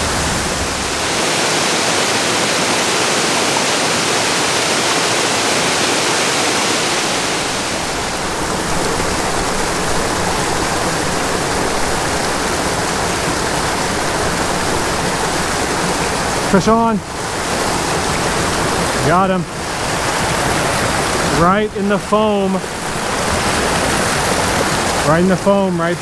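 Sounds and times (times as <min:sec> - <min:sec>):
mountain creek cascading: 0:00.0 - 0:26.0.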